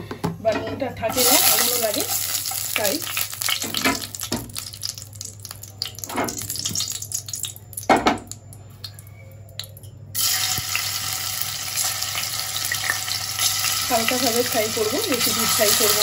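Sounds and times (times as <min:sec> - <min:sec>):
food frying in oil sizzle: 0:01.1 - 0:08.5, 0:10.2 - 0:16.0.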